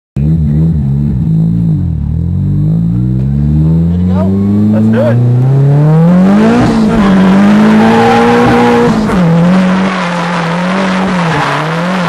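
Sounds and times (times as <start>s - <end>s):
car engine revving hard: 0.2s - 12.0s.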